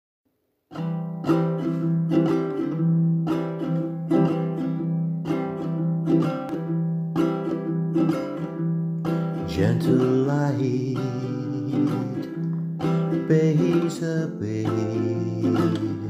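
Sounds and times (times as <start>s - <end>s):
ukulele chords ringing: 0.7s - 16.0s.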